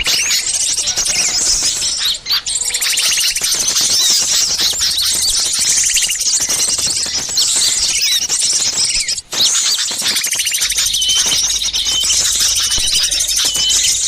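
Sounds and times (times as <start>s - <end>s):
songbirds scolding calls: 0.0s - 14.0s.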